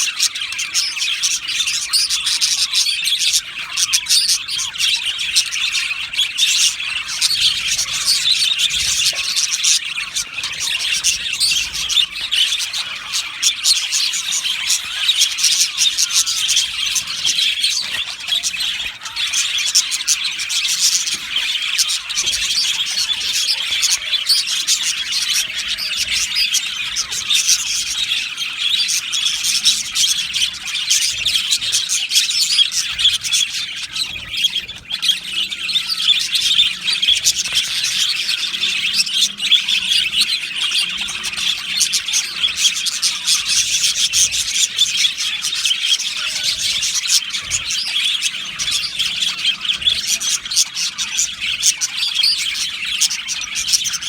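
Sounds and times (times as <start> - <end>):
budgerigars chirping and warbling: 0.0 - 54.0
sharp squawks: 0.0 - 54.0.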